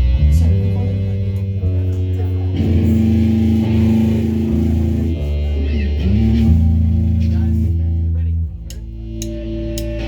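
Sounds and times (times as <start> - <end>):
live band playing guitar and bass: 0.0 - 10.0.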